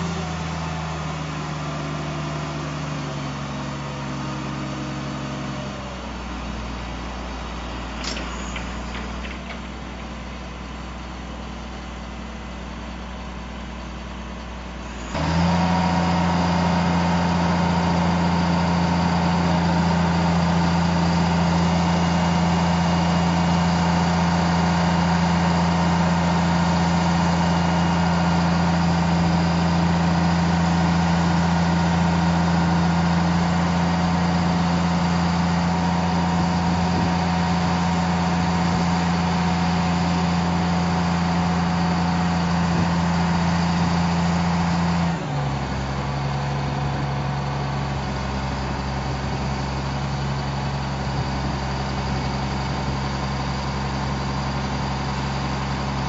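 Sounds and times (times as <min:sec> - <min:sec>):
truck engine running with whine: 0:00.0 - 0:56.0.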